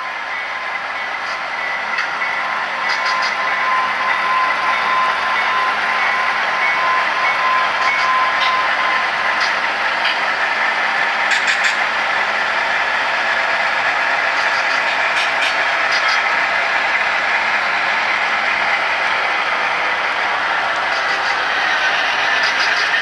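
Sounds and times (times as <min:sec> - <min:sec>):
model train rolling past: 0:00.0 - 0:23.0
wheels clicking on track: 0:00.0 - 0:23.0.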